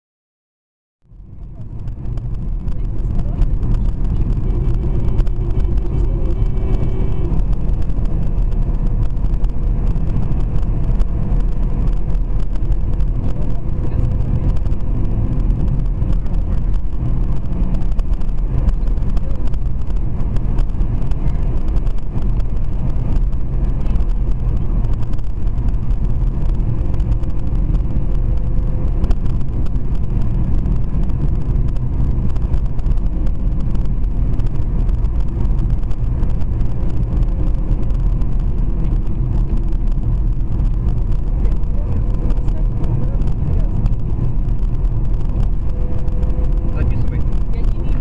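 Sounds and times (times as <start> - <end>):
car engine and road noise: 1.0 - 48.0.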